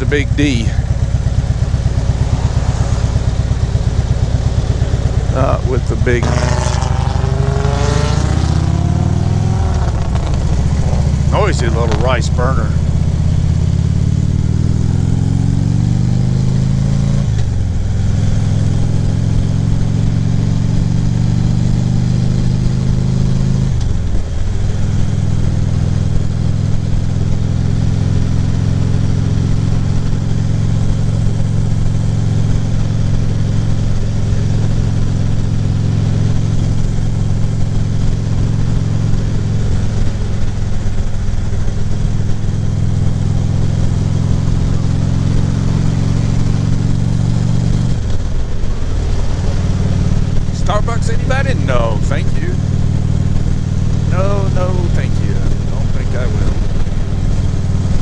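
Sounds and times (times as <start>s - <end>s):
motorcycle engine pulling away: 0.9s - 58.0s.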